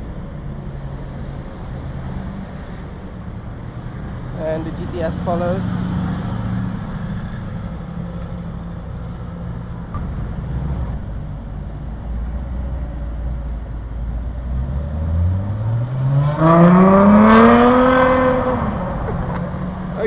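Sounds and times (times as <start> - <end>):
sports car engine accelerating: 0.0 - 20.0.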